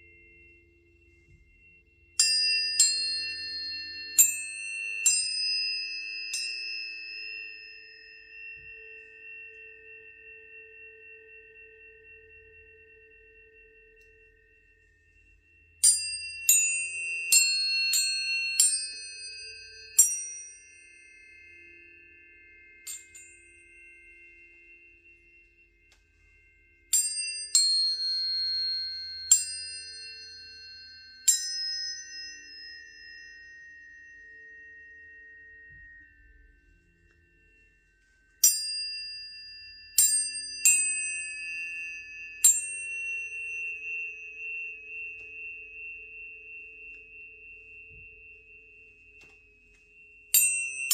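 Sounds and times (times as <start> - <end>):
tuning forks struck and ringing: 0.0 - 50.9.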